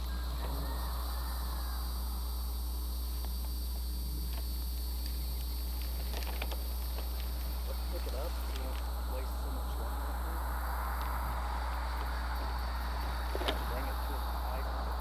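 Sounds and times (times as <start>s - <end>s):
constant low hum: 0.0s - 15.0s
crickets trilling: 0.0s - 15.0s.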